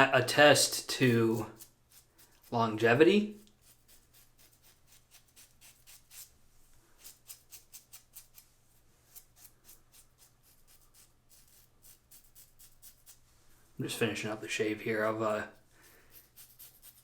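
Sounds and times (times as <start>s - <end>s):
razor scraping stubble: 0.6s - 13.3s, 14.0s - 17.0s.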